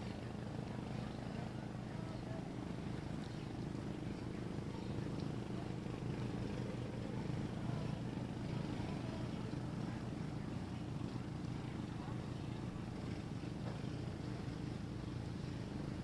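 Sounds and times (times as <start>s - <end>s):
low motor drone: 0.0s - 16.0s.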